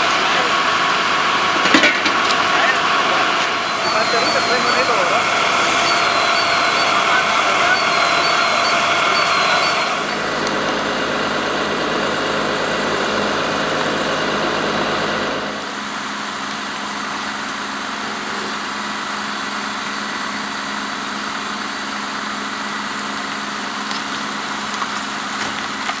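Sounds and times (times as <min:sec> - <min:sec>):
truck engines idling: 0:00.0 - 0:26.0.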